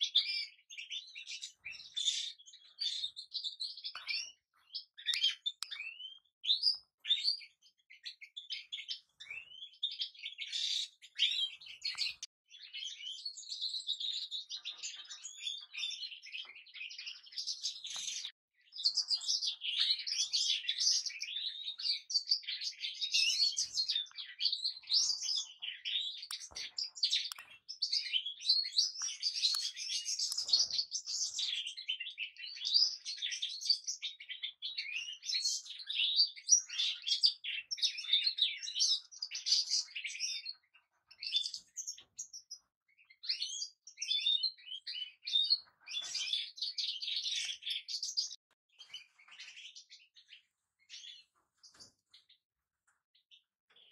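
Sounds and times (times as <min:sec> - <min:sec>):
goldfinches twittering song: 0:00.1 - 0:51.8.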